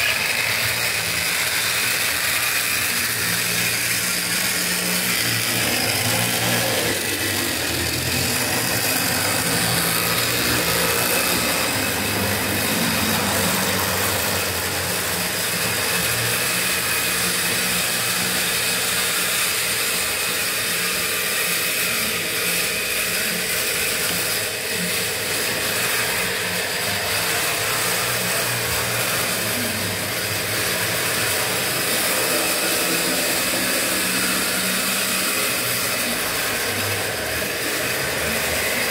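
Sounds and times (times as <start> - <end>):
model train motor whirring: 0.0 - 38.9.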